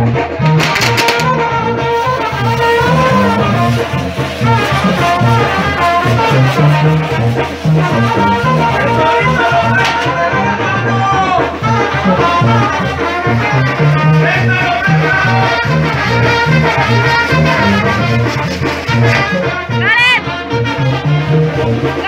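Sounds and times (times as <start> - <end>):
latin dance music with brass: 0.0 - 22.0.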